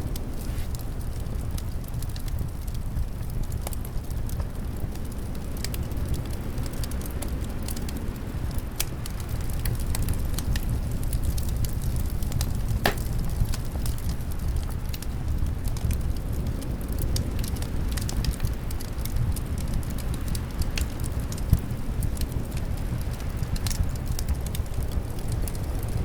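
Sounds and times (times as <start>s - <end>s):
fire popping: 0.0s - 26.0s
low rush of wind: 0.0s - 26.0s
wood fire crackling: 0.0s - 26.0s.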